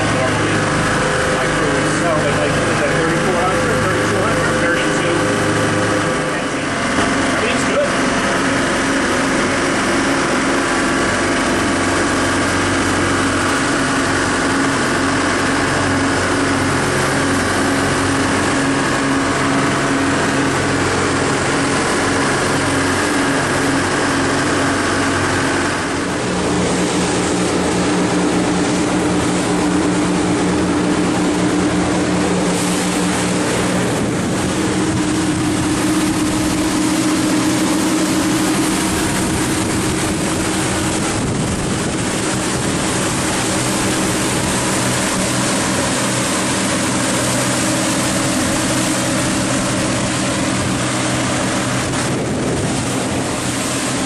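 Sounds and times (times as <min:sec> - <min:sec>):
boat engines running: 0:00.0 - 0:54.0
rushing water: 0:00.0 - 0:54.0
wind: 0:00.0 - 0:54.0.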